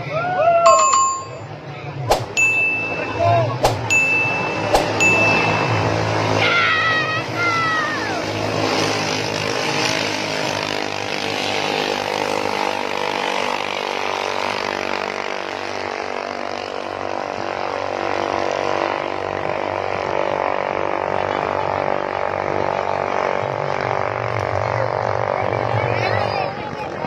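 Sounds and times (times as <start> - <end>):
boat engines buzzing drone: 0.0 - 27.0.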